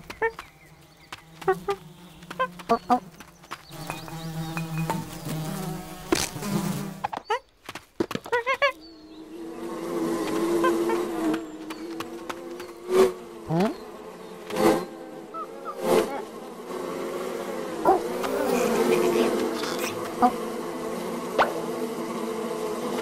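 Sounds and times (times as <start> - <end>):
cartoon bees buzzing: 0.0 - 7.4, 8.0 - 23.0.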